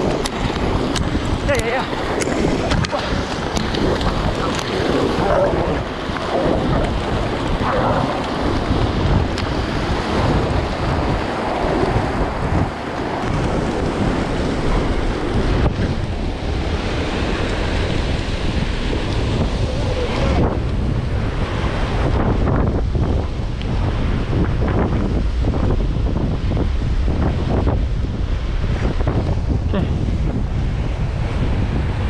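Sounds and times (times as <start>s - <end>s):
surf breaking on beach: 0.0s - 32.0s
wind buffeting microphone: 0.0s - 32.0s.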